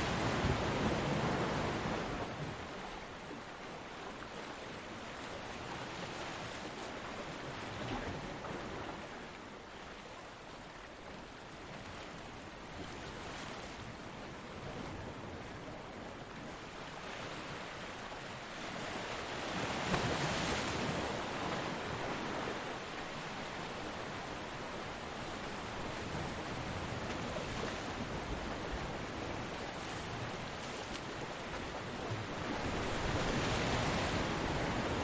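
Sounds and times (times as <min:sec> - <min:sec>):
ocean surf washing: 0:00.0 - 0:09.6, 0:12.2 - 0:35.0.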